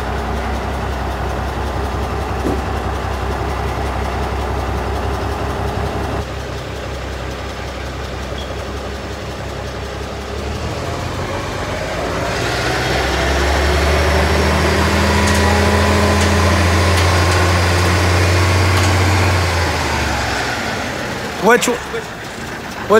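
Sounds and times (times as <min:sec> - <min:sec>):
truck engine running: 0:00.0 - 0:22.9.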